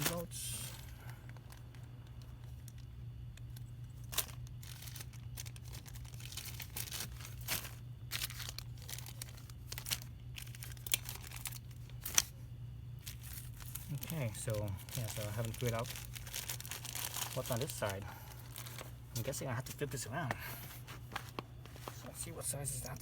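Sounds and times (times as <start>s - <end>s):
plastic bags rustling: 0.0s - 12.4s, 13.0s - 23.0s
steady low hum: 0.0s - 23.0s.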